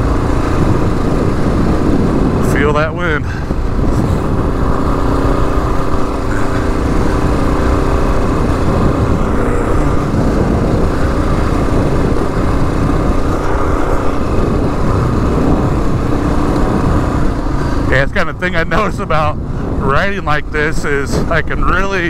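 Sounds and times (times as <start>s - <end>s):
motorcycle engine running: 0.0s - 22.0s
wind on microphone: 0.0s - 22.0s.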